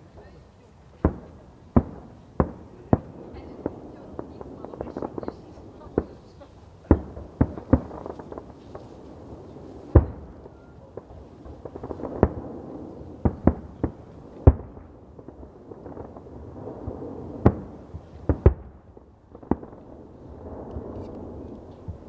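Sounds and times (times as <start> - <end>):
distant fireworks crackling and rumbling: 0.0 - 22.0
firecracker bangs: 1.0 - 22.0.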